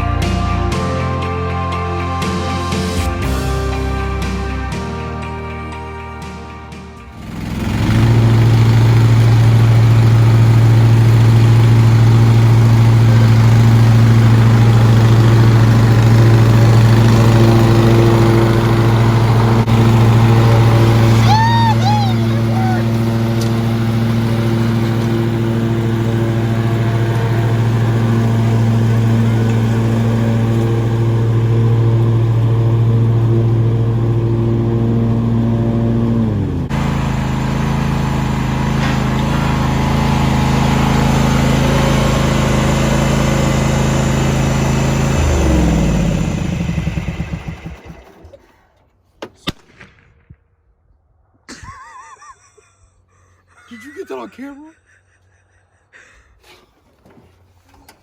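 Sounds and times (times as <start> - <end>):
riding mower engine running: 0.0 - 49.0, 56.8 - 58.0.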